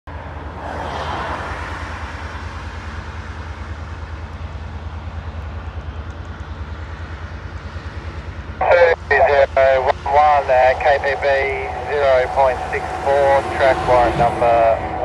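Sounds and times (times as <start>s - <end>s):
diesel locomotive engine rumbling: 1.4s - 15.0s.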